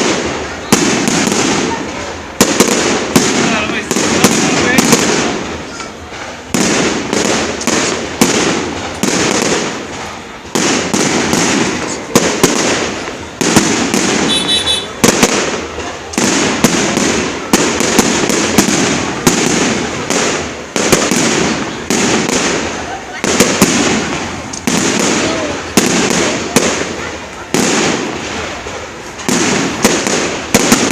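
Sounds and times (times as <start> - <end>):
fireworks bangs with crackle: 0.0 - 30.9.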